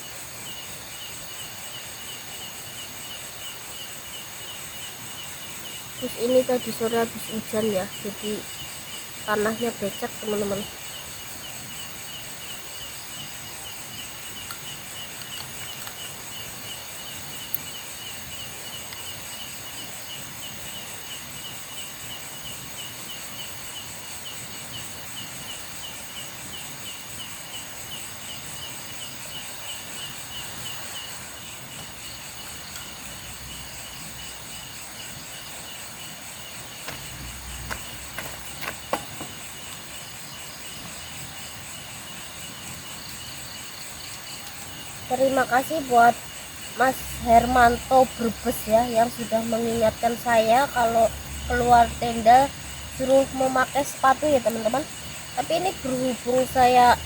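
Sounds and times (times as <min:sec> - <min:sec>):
pulsing insect chirp: 0:00.0 - 0:57.0
steady insect hiss: 0:00.0 - 0:57.0.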